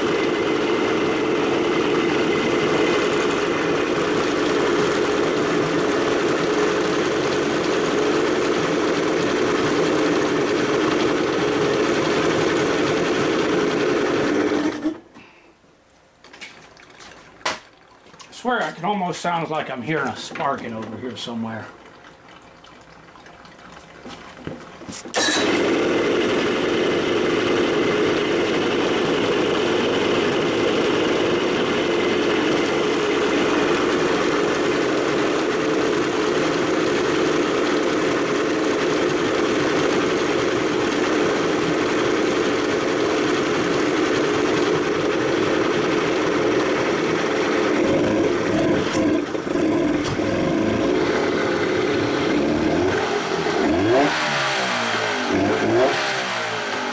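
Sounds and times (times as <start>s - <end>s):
outboard motor running: 0.0s - 15.0s, 17.0s - 56.9s.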